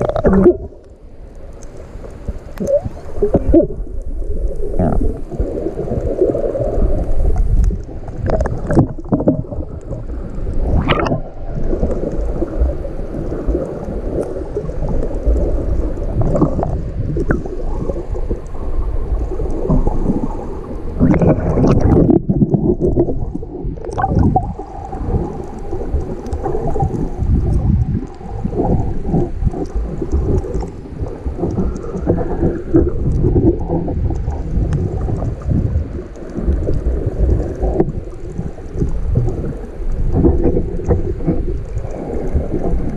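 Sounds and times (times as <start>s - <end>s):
gurgling bubbles: 0.0s - 42.9s
underwater low rumble: 0.0s - 42.9s
water splashes: 0.0s - 42.9s.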